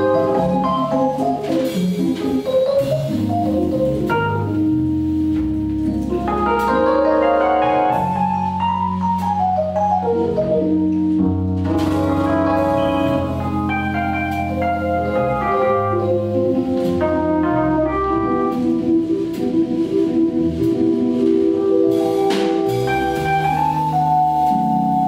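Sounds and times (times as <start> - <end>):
piano notes and chords: 0.0 - 25.0
walking double bass: 0.0 - 25.0.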